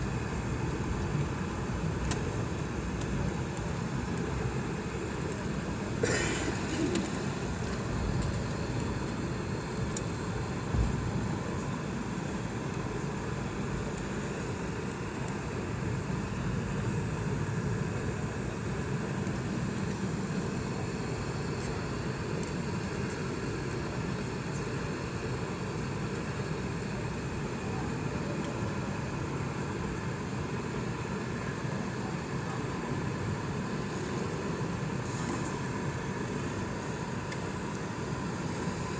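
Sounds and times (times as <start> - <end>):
airliner cabin engine noise: 0.0 - 38.9.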